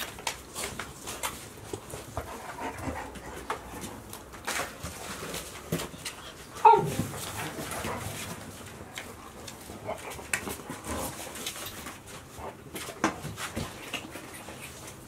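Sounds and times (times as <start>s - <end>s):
puppy paws scuffling on floor: 0.0s - 15.0s.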